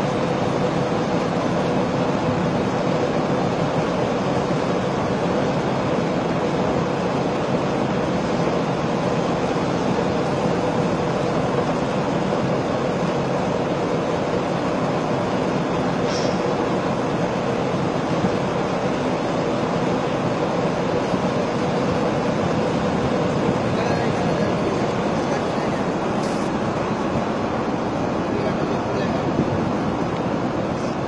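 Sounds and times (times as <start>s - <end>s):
steady mechanical drone: 0.0s - 31.0s.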